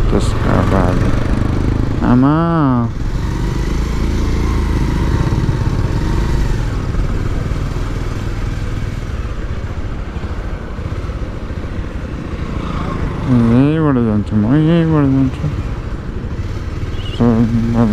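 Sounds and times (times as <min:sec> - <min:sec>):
motorcycle engine rumbling: 0:00.0 - 0:17.9.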